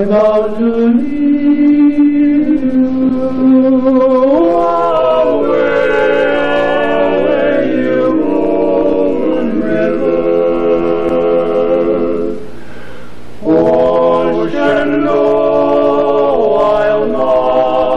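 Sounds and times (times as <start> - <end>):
male quartet singing a cappella: 0.0 - 12.6, 13.4 - 17.9.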